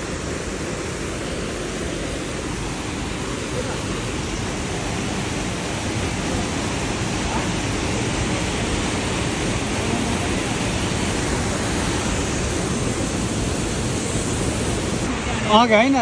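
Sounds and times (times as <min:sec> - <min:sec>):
stream rushing over waterfall: 0:00.0 - 0:16.0.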